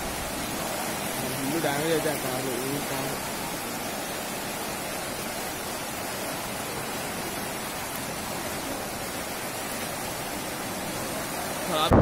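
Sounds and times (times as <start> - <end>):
floodwater rushing: 0.0 - 12.0
rain: 0.0 - 12.0.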